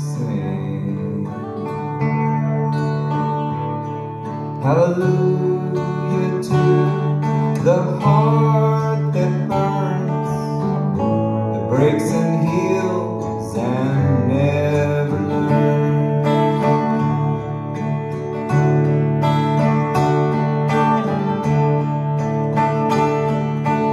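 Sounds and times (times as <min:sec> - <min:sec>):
electric guitar: 0:00.0 - 0:23.9
strummed acoustic guitar: 0:00.0 - 0:23.9.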